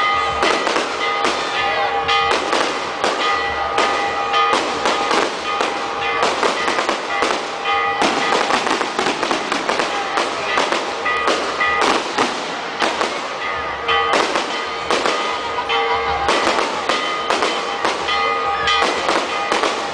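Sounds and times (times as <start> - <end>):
fireworks bangs and crackles: 0.0 - 19.9.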